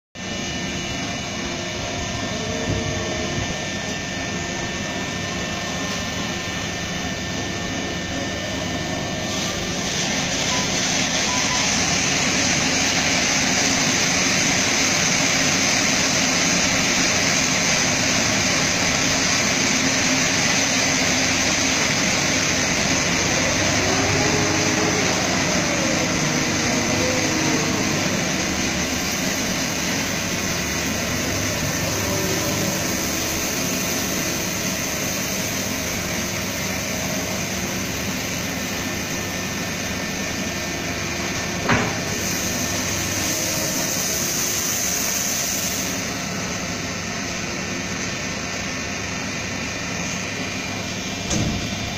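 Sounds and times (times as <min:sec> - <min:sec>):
crane machinery drone: 0:00.2 - 0:51.9.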